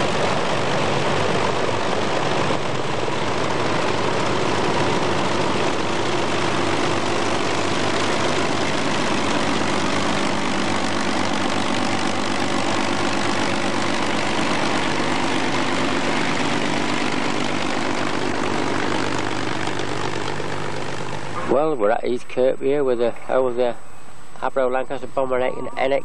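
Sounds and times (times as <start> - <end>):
propeller aircraft engines droning: 0.0 - 26.0.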